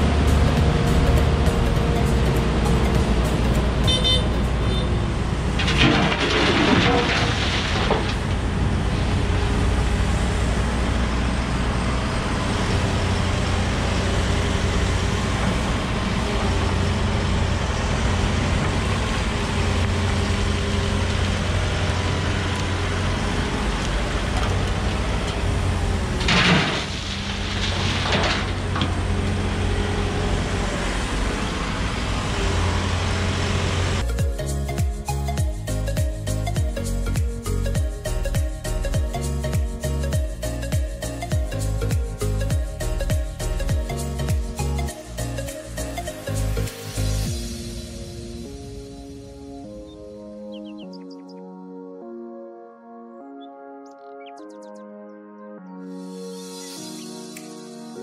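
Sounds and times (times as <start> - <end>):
diesel engines running: 0.0 - 49.6.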